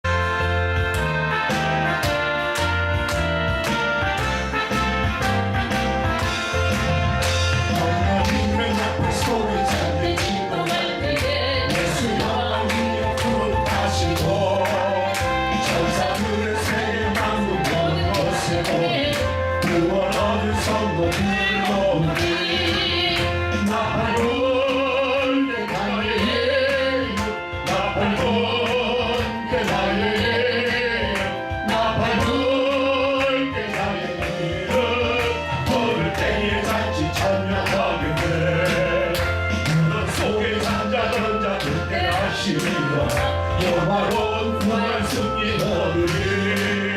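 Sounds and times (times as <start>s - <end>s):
heavy bass: 0.0s - 46.9s
steady drum beat: 0.1s - 46.9s
people singing a hymn: 7.7s - 46.9s.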